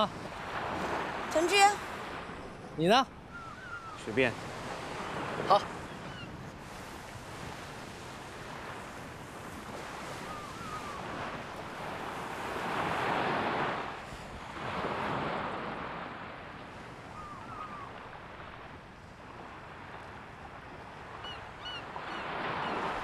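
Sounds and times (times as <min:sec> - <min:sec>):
waves breaking on beach: 0:00.0 - 0:23.0.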